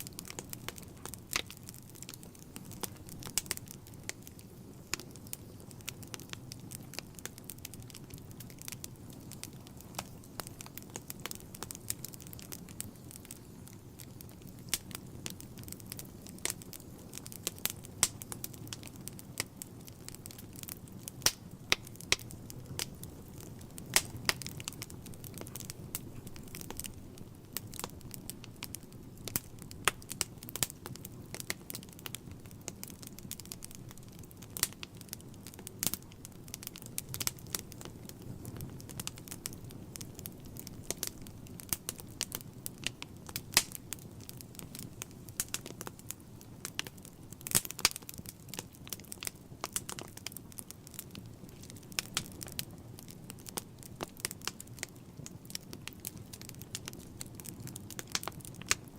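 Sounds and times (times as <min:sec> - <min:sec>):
rumble of flames: 0:00.0 - 0:58.9
wood fire crackling and popping: 0:00.0 - 0:58.9.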